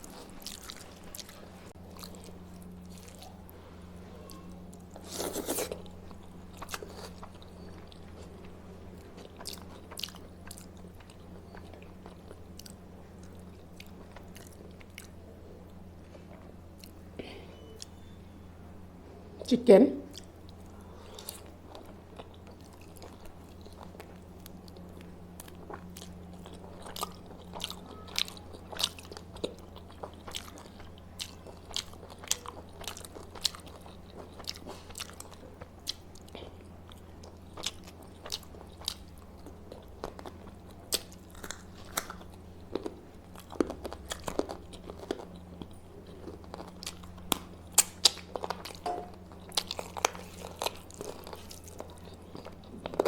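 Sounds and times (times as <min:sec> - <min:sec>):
person chewing food: 0:00.0 - 0:18.0, 0:20.1 - 0:53.0.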